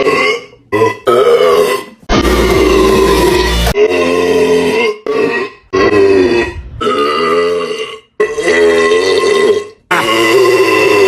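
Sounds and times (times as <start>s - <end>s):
loud drawn-out belches: 0.0s - 11.0s.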